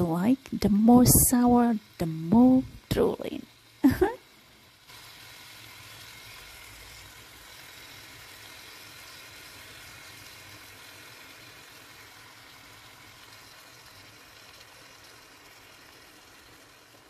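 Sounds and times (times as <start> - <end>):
paste sizzling in a wok: 0.0 - 17.0.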